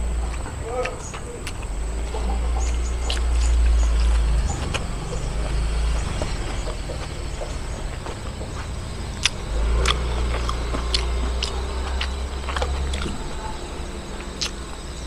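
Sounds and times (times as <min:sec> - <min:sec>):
low rumble: 0:00.0 - 0:15.0
wet chewing smacks: 0:00.2 - 0:15.0.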